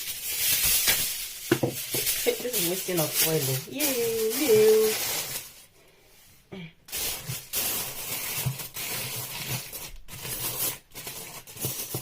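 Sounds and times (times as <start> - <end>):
aluminium foil crinkling: 0.0 - 5.7, 6.9 - 12.0.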